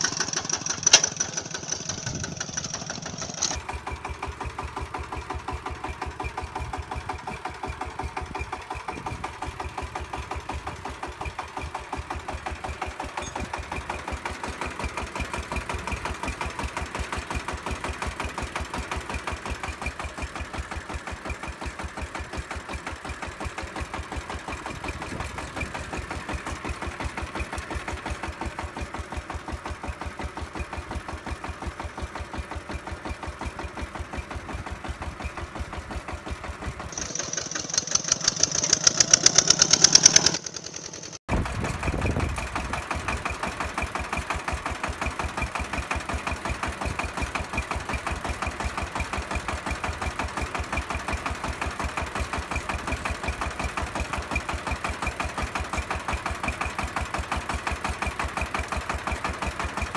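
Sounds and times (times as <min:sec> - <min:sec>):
small model engine chugging: 0:00.0 - 0:59.9.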